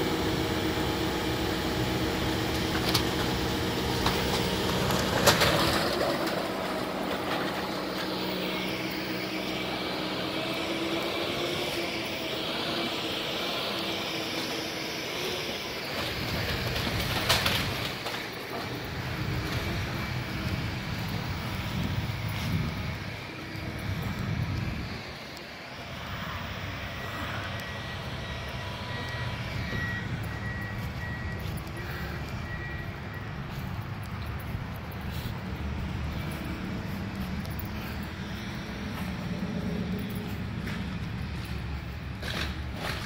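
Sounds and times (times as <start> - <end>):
construction machine engine running: 0.0 - 43.0.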